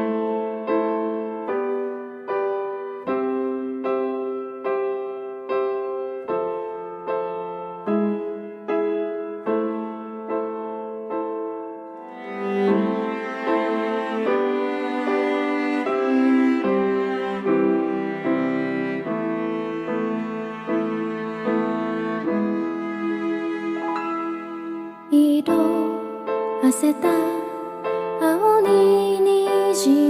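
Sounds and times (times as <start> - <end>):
fuller music arrangement: 0.0 - 30.0
slow piano chords: 0.0 - 30.0.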